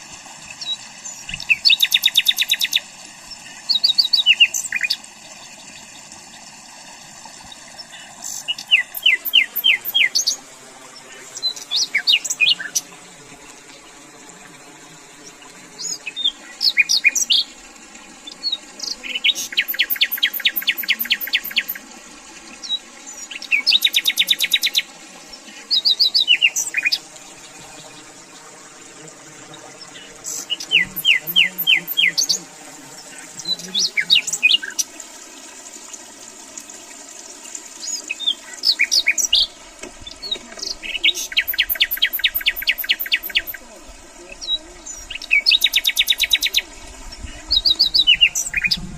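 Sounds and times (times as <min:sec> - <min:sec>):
songbird chirps and trills: 0:00.5 - 0:06.5, 0:07.4 - 0:10.4, 0:11.0 - 0:13.0, 0:15.2 - 0:17.6, 0:18.2 - 0:21.9, 0:22.5 - 0:28.6, 0:29.3 - 0:35.0, 0:37.7 - 0:48.9.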